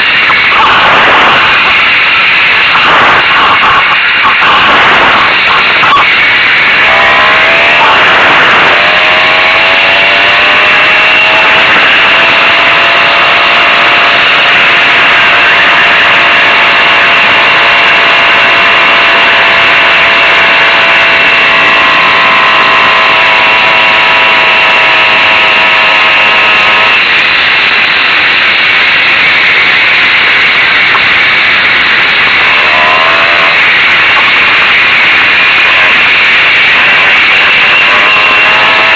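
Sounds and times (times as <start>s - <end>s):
moped two-stroke engine running: 0.0s - 38.9s
wind rushing on microphone: 0.0s - 38.9s.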